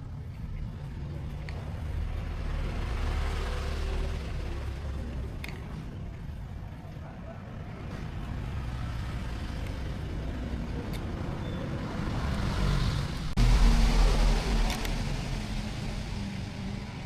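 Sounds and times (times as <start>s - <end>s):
small engine humming: 0.0s - 17.0s.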